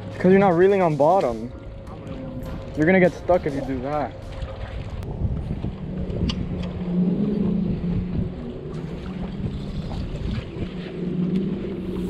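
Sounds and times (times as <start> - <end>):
low motor hum: 0.0 - 12.0
wind on microphone: 0.0 - 12.0.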